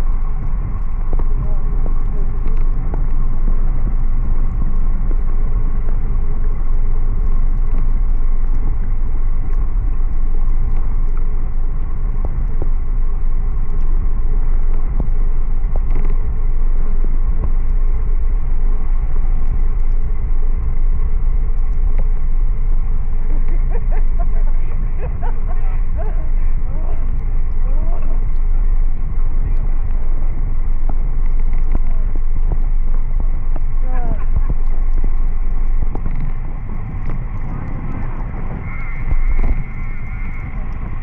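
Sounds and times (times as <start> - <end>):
road noise: 0.0 - 41.0
wind buffeting microphone: 0.0 - 41.0.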